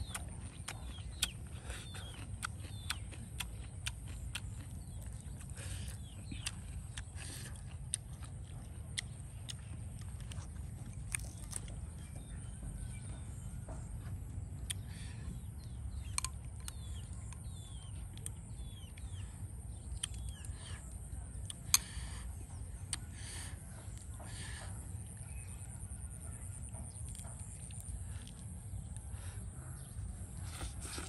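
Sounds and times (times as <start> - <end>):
bird chirps: 0.0 - 31.0.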